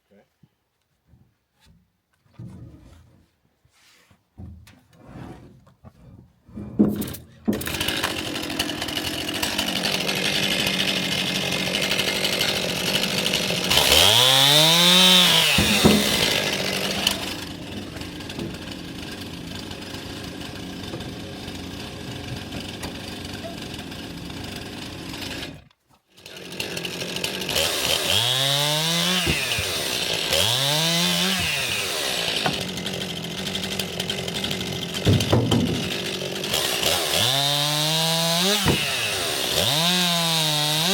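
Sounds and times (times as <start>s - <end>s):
chainsaw revving: 7.6s - 40.9s.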